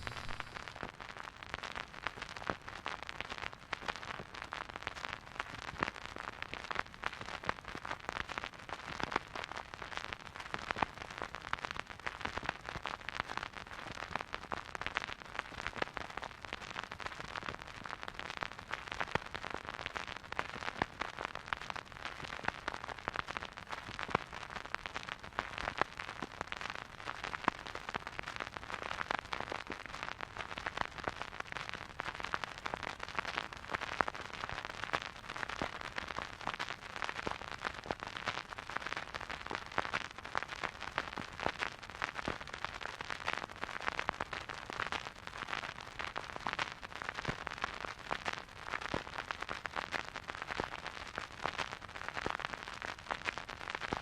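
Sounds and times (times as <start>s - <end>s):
vinyl record crackle: 0.0s - 54.0s.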